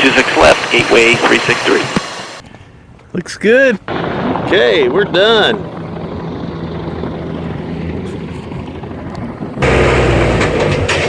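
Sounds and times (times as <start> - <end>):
jet engine noise: 0.0 - 2.4, 3.8 - 11.0.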